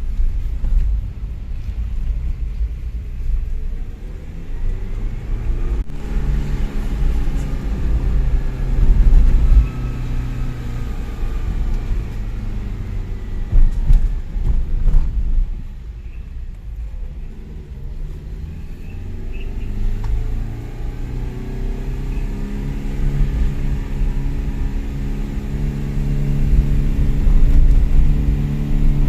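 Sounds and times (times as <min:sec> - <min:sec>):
heavy low rumble: 0:00.0 - 0:19.2, 0:22.9 - 0:29.0.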